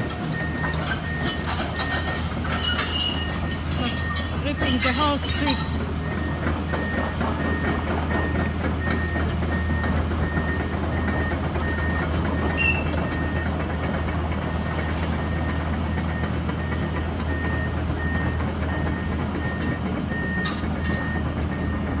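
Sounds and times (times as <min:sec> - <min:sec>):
diesel engine rumbling: 0:00.0 - 0:22.0
travel alarm beeping: 0:00.3 - 0:22.0.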